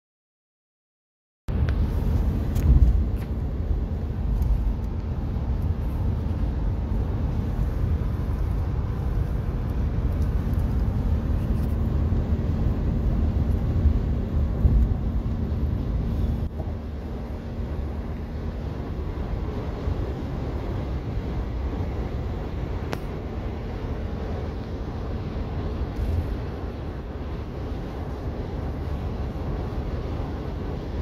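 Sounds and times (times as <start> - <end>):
car cabin road rumble: 1.5 - 31.0.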